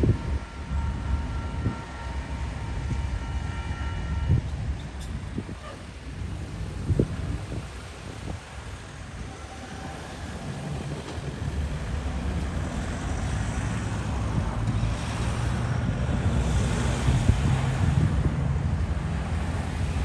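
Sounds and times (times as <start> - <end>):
diesel locomotive rumble: 0.0 - 20.0
road traffic passing: 0.0 - 20.0
wind on microphone: 0.0 - 20.0.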